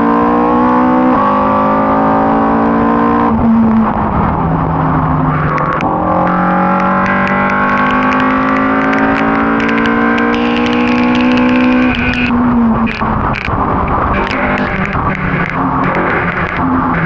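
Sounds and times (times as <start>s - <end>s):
race car engine at full throttle: 0.0s - 17.0s
engine crackles: 3.3s - 17.0s.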